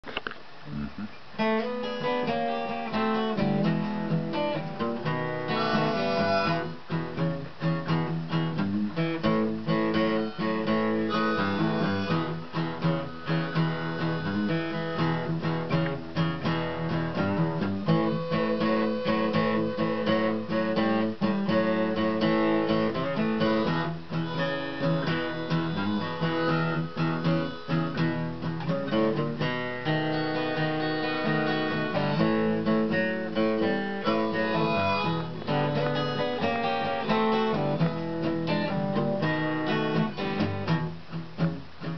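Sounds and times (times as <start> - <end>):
acoustic guitar blues: 0.1 - 41.9.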